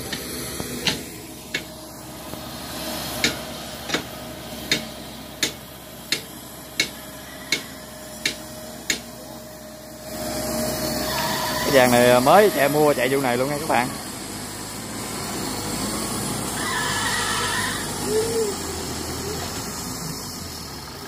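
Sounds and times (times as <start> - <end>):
distant tractor engine drone: 0.0 - 21.0.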